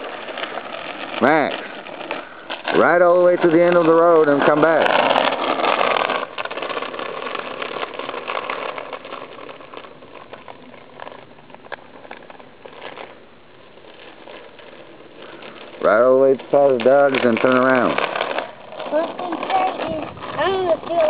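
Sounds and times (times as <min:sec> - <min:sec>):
bicycle chain rattling: 0:00.0 - 0:13.2, 0:13.8 - 0:21.0
bicycle tyres crunching on grit: 0:00.0 - 0:21.0.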